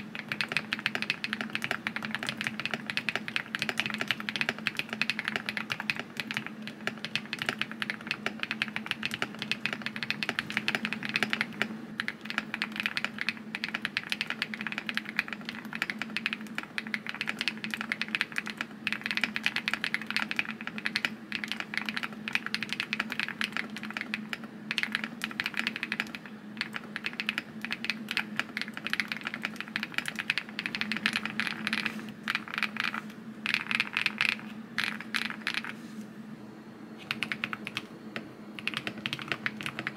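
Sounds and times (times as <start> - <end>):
mechanical keyboard typing: 0.0 - 35.8, 37.0 - 37.9, 38.6 - 39.9.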